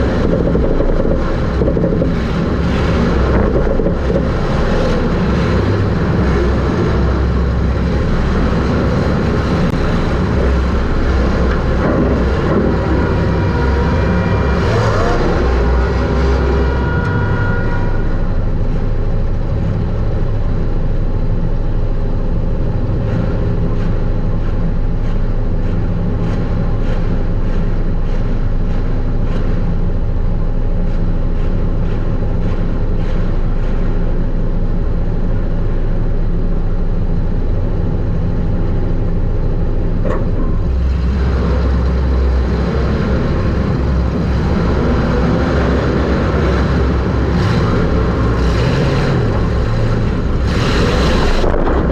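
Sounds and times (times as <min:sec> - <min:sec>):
drivetrain and chassis noise: 0:00.0 - 0:51.9
race car engine running hard: 0:00.0 - 0:51.9.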